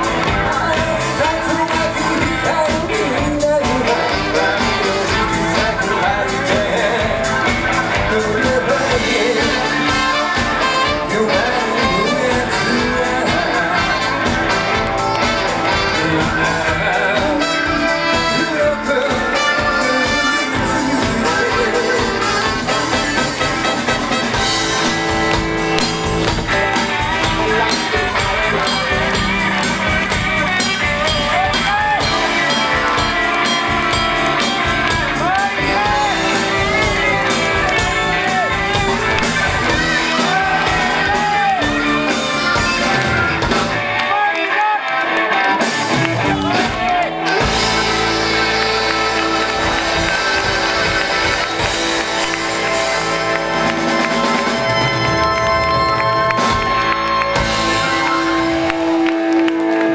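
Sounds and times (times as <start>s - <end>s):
electric guitar lead bending notes: 0.0s - 59.9s
live rock band playing: 0.0s - 59.9s.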